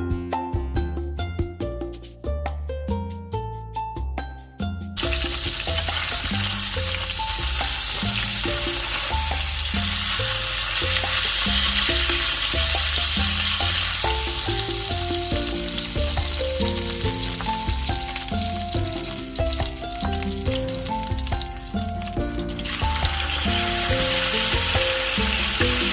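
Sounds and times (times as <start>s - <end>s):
background music: 0.0s - 25.9s
chicken frying in hot oil: 5.0s - 25.9s.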